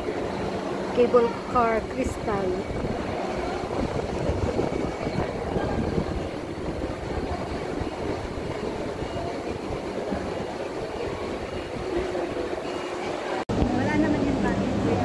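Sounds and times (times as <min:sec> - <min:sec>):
cable car machinery running: 0:00.0 - 0:15.0
faint voices: 0:00.0 - 0:15.0.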